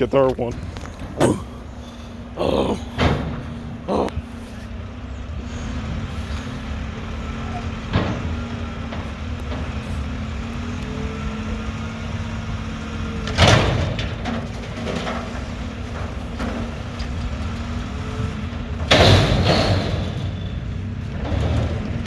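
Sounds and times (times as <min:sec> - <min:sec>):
garbage truck diesel engine: 0:00.0 - 0:22.0.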